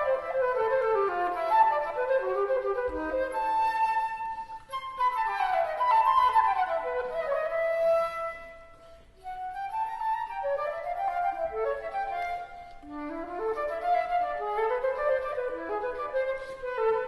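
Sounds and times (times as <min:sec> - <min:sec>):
flute melody: 0:00.0 - 0:17.0.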